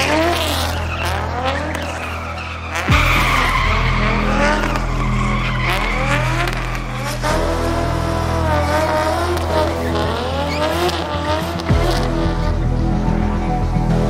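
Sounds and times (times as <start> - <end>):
tyres squealing: 0.0 - 12.1
background music with bass notes: 0.0 - 14.0
engine revving: 0.0 - 14.0.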